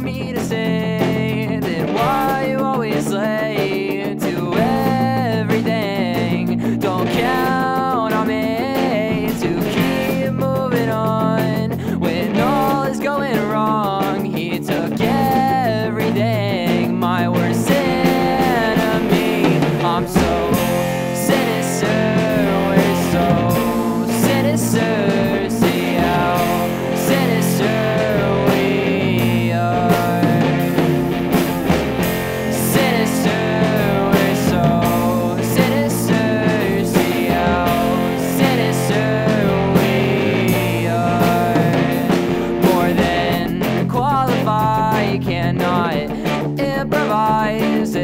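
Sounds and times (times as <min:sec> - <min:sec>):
person singing: 0:00.0 - 0:48.0
rock band playing: 0:00.0 - 0:48.0.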